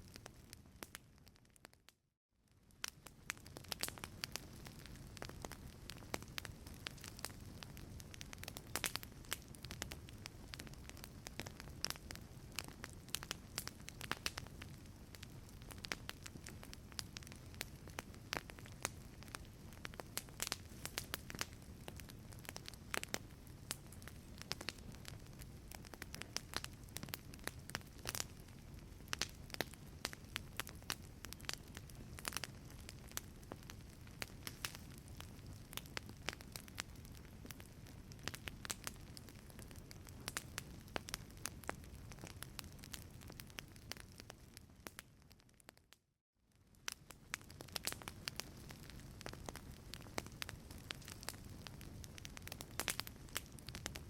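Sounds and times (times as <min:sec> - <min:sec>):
wood fire crackling: 0:00.0 - 0:01.9, 0:02.5 - 0:45.7, 0:46.6 - 0:54.0.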